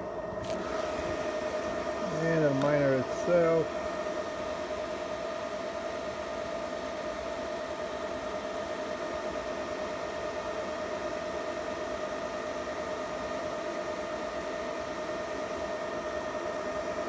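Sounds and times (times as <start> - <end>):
cooling fans running: 0.0 - 17.0.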